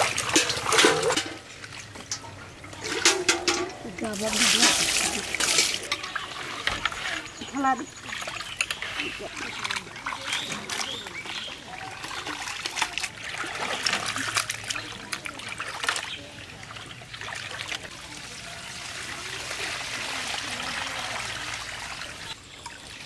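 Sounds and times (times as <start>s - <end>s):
water splashing in basins: 0.0s - 23.0s
water trickling: 0.0s - 23.0s.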